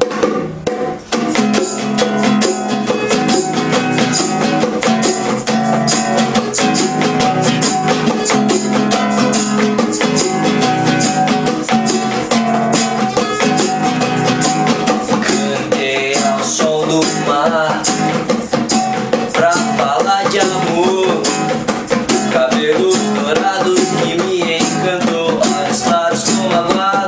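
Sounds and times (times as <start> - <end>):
acoustic guitar strumming: 0.0 - 27.0
bongo drums: 0.0 - 27.0.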